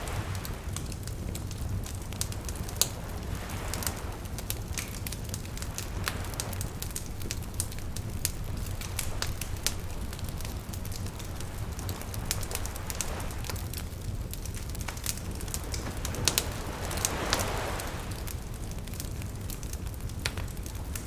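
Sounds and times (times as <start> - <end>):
small waves washing: 0.0 - 19.2
wood fire crackling and popping: 0.0 - 21.0.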